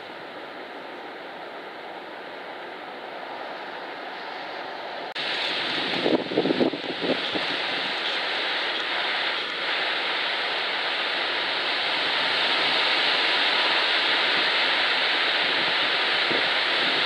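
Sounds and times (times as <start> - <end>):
wind rushing through trees: 0.0 - 17.0.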